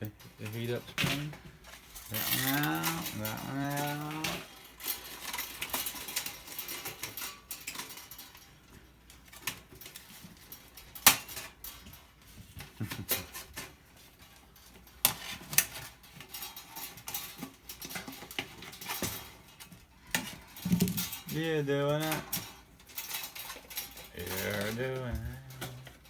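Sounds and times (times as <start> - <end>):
hand tools clinking on metal: 0.0 - 26.0.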